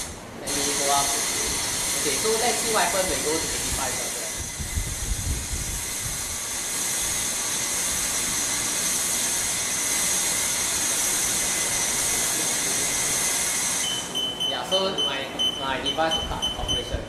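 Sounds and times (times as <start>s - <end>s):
hair dryer blowing: 0.0s - 14.1s.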